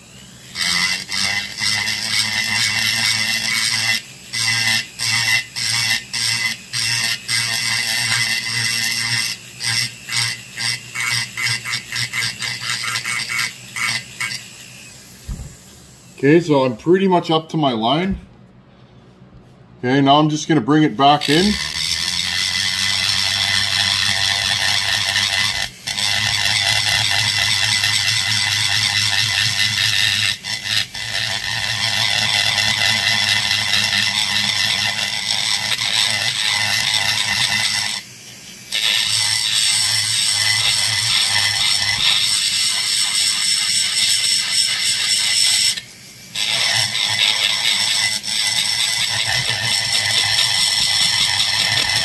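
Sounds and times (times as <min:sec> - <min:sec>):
rotary tool grinding metal: 0:00.0 - 0:16.7, 0:21.0 - 0:52.0.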